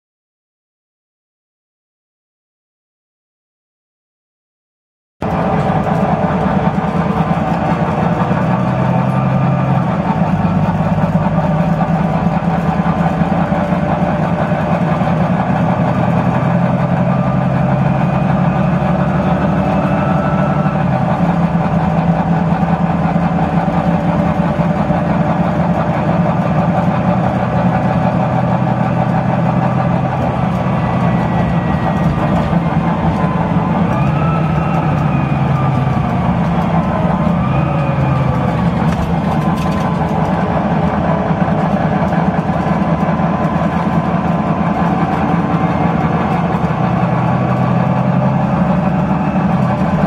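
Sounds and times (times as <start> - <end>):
bus diesel engine running: 5.2 - 50.0.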